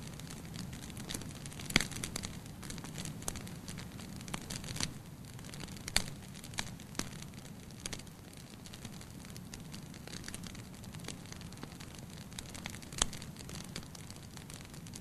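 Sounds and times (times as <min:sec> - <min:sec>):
logs crackling and popping: 0:00.0 - 0:15.0.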